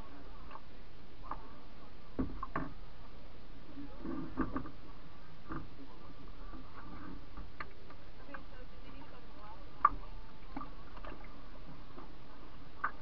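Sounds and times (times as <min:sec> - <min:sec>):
water noise: 0:00.0 - 0:13.0.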